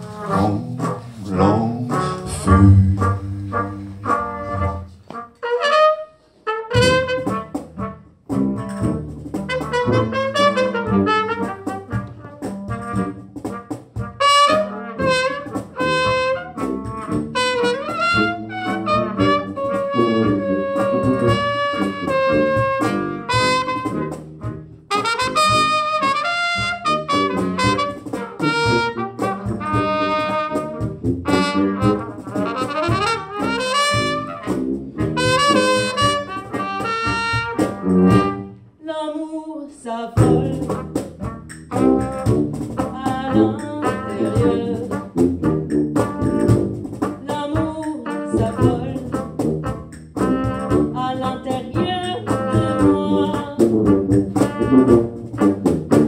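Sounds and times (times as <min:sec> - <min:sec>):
brass band playing: 0:00.0 - 0:38.7, 0:40.2 - 0:56.0.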